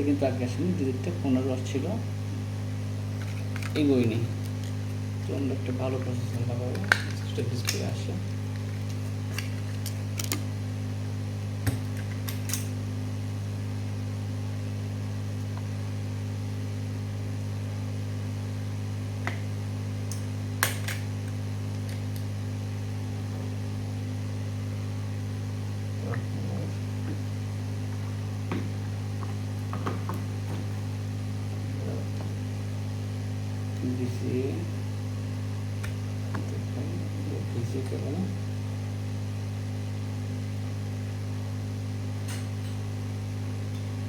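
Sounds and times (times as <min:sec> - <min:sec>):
low electrical hum: 0:00.0 - 0:44.0.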